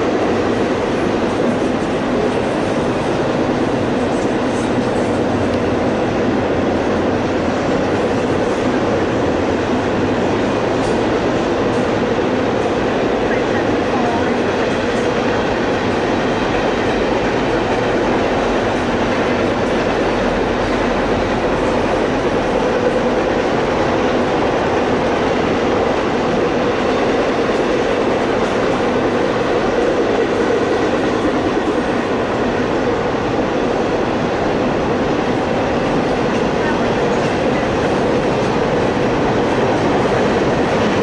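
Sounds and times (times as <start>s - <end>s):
train wheels on rails: 0.0s - 41.0s.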